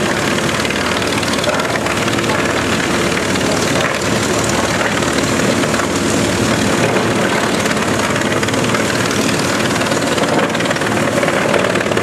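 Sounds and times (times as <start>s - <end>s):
wood chipper chipping tree trunks: 0.0s - 12.0s.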